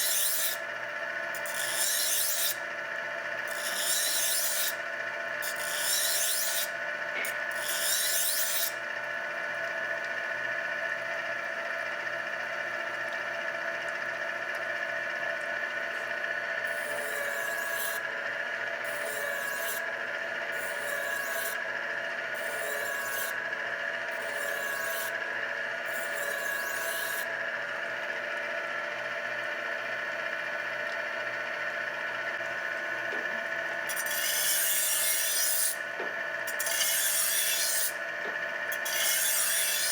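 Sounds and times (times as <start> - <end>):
electric knife honer motor hum: 0.0 - 39.9.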